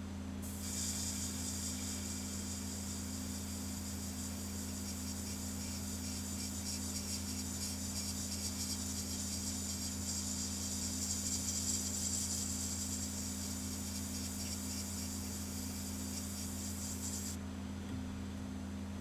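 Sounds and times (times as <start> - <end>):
constant low hum: 0.0 - 19.0
airbrush spraying hiss: 0.4 - 17.4.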